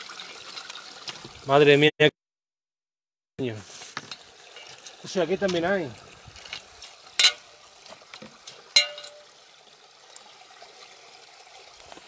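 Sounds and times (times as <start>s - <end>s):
water trickling in fountain: 0.0s - 1.8s, 3.4s - 12.0s.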